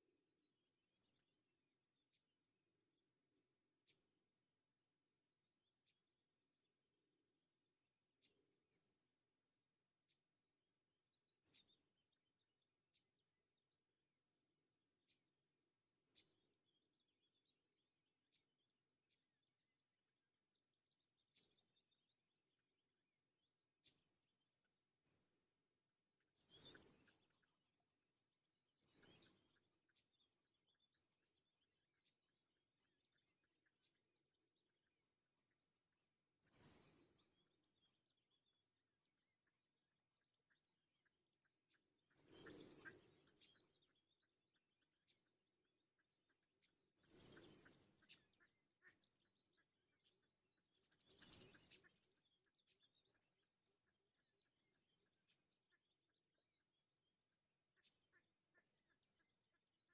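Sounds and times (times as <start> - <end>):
faint chirps: 0.0 - 59.9.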